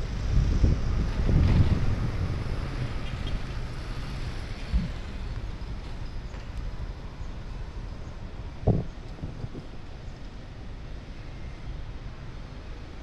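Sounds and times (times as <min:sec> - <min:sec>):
wind rumble on microphone: 0:00.0 - 0:11.0
street traffic: 0:00.0 - 0:13.0.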